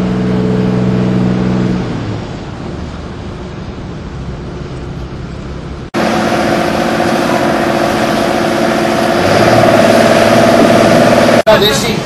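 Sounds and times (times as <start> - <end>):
boat diesel engine idling: 0.0 - 12.0.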